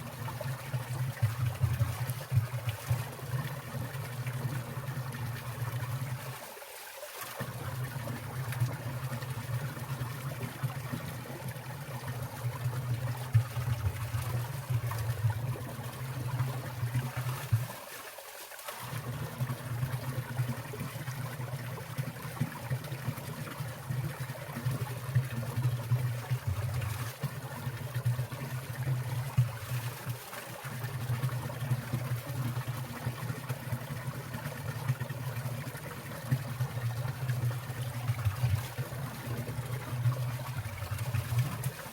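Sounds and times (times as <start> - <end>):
stream trickling and splashing: 0.0 - 41.9.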